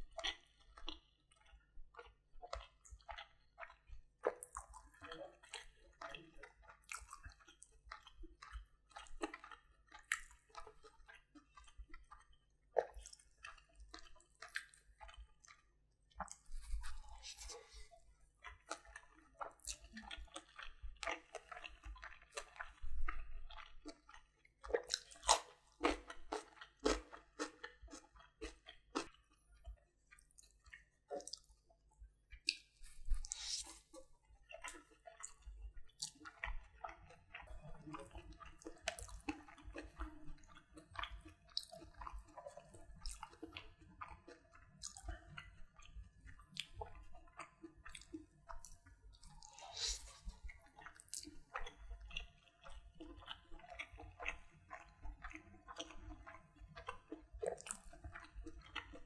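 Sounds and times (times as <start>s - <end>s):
person chewing: 0.2s - 29.4s, 30.1s - 31.5s, 32.3s - 59.0s
fingers squishing food: 0.2s - 31.6s, 32.3s - 59.0s
wet mouth clicks and smacks: 0.2s - 31.6s, 32.3s - 59.0s.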